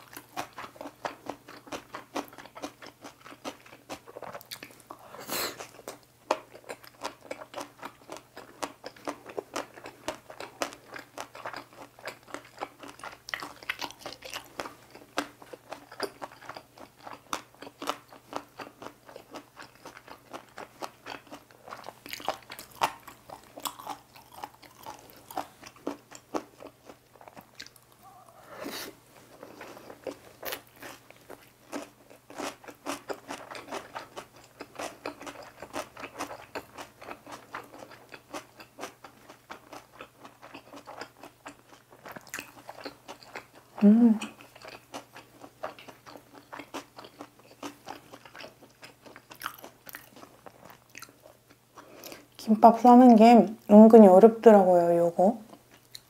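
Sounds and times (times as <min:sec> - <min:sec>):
crunchy chewing: 0:00.0 - 0:52.4.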